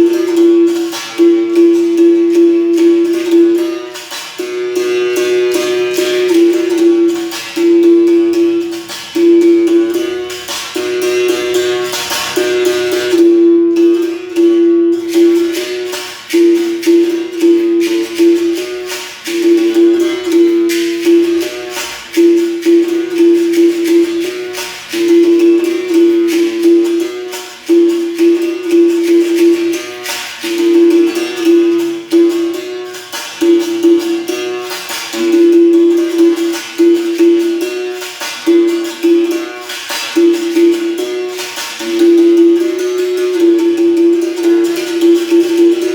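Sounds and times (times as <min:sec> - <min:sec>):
berimbau playing rhythm: 0:00.0 - 0:45.9
shaken rattle ticking: 0:00.0 - 0:45.9.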